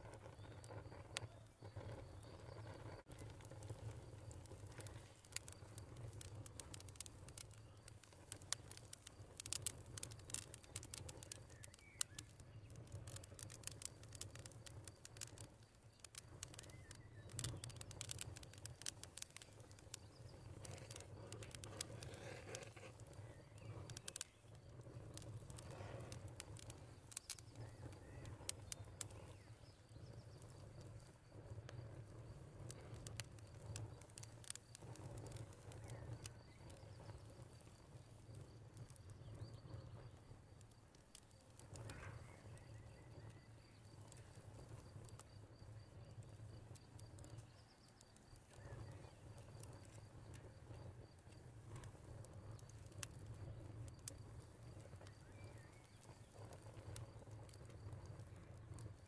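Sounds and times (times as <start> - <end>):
light ticks and patter: 0.0 - 59.0.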